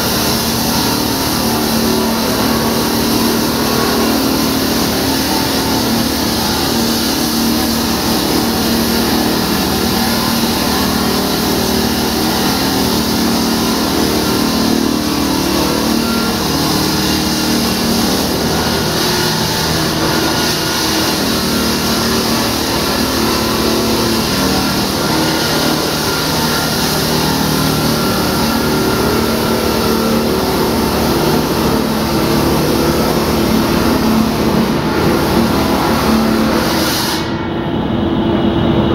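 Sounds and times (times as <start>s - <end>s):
strong wide hiss: 0.0s - 37.4s
loud engine running: 0.0s - 38.9s.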